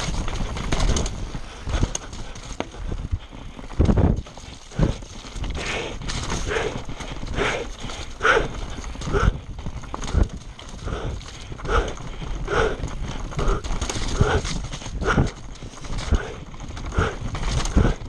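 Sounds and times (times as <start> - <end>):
bike rattling over rocks: 0.0 - 18.0
wind rumble on camera: 0.0 - 18.0
heavy breathing: 0.2 - 18.0.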